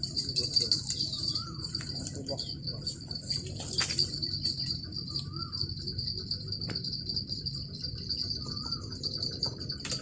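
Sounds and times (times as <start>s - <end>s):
insects chirring: 0.0s - 10.0s
low rumbling background: 0.0s - 10.0s.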